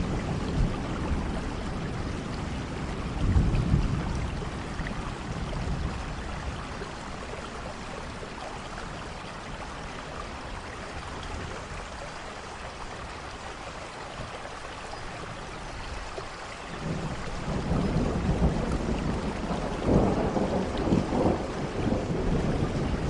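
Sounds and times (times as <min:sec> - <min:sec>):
low rumble of thunder: 0:00.0 - 0:12.2, 0:16.7 - 0:23.0
steady rain falling: 0:00.0 - 0:23.0.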